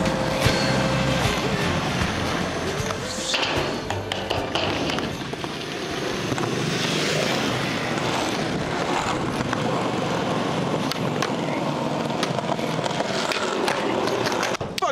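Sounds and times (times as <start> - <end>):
skateboard wheels rolling on concrete: 0.0 - 14.9
skateboard clicks and clacks: 2.8 - 14.9.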